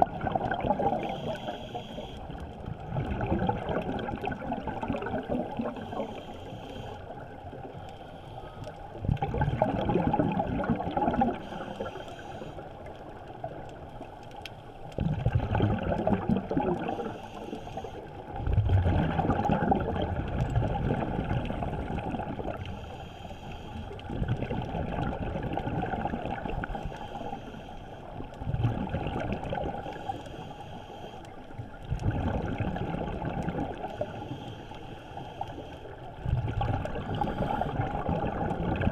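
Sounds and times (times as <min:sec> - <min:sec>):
regulator bubbles gurgling underwater: 0:00.0 - 0:38.9.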